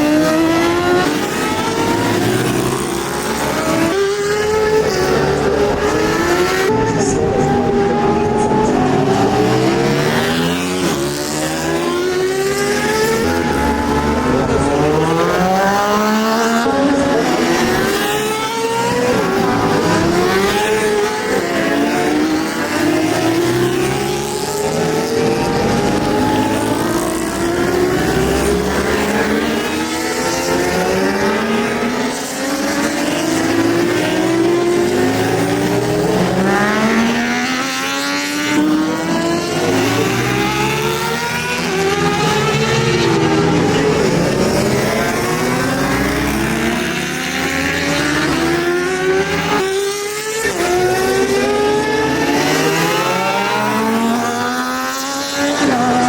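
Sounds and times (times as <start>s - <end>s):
superbike engines revving: 0.0s - 56.0s.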